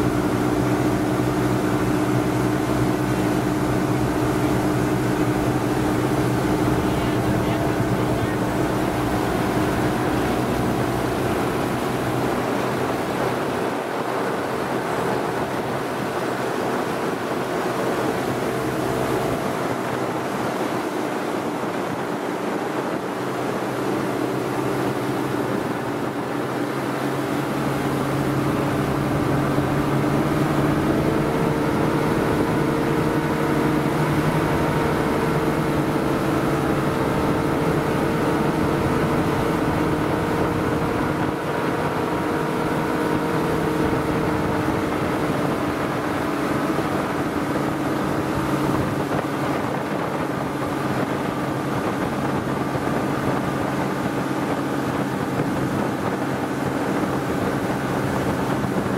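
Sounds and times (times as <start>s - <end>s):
outboard motors droning: 0.0s - 58.9s
wind rush on microphone: 0.0s - 58.9s.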